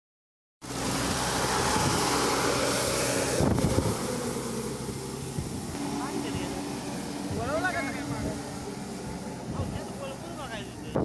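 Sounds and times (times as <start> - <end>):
rushing hiss of air: 0.6 - 10.4
tractor engine hum: 0.6 - 11.0.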